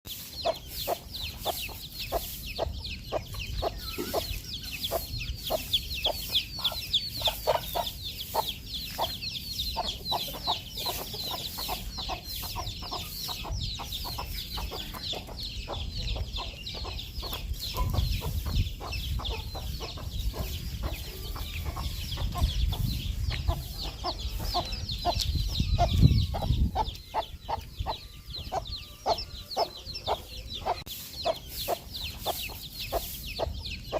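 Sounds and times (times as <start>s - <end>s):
baby chicks peeping: 0.1s - 33.9s
hen clucking: 0.1s - 33.9s.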